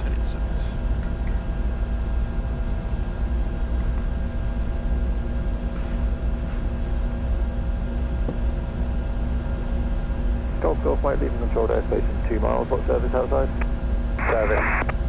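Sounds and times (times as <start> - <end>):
jet airflow and engine rumble: 0.0 - 15.0
steady tonal hum: 0.0 - 15.0.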